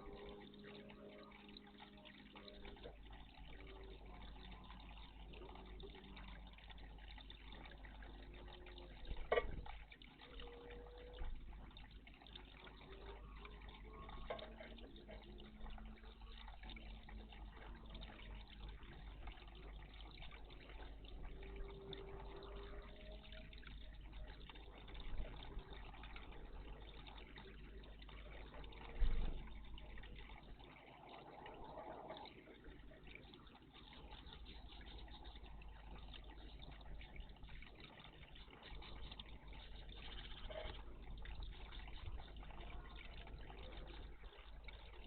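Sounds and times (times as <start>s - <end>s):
water trickling and dripping: 0.0s - 45.0s.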